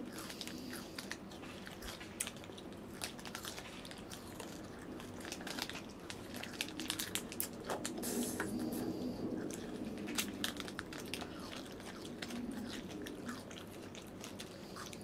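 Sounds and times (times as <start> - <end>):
crunchy food being chewed: 0.0 - 15.0
plastic wrapper crinkling: 0.4 - 8.7, 9.6 - 14.5.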